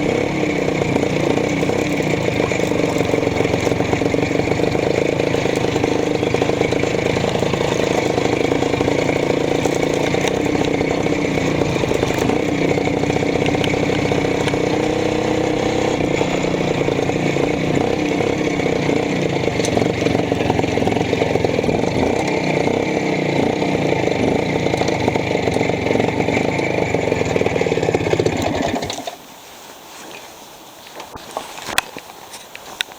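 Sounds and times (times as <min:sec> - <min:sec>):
two-stroke motorcycle engine running: 0:00.0 - 0:29.0.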